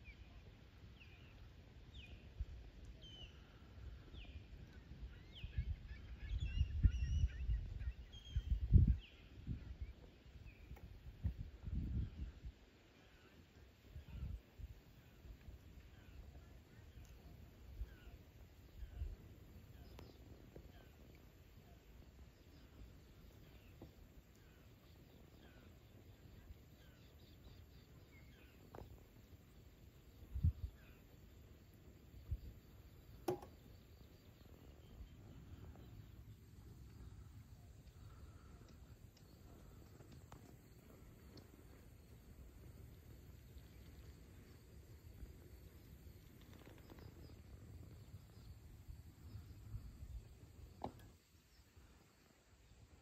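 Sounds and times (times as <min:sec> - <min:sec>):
faint bird chirps: 0:00.0 - 0:53.0
faint low rumble: 0:00.0 - 0:53.0.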